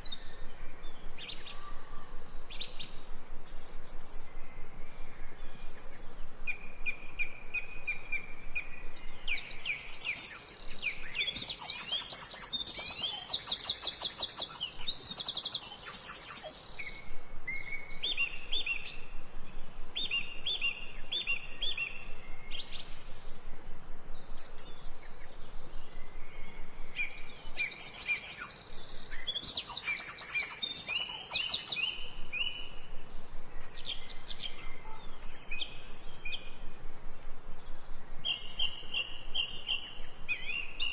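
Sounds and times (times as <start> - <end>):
songbirds chirping and singing: 0.0 - 36.6
faint steady background hiss: 0.0 - 40.9.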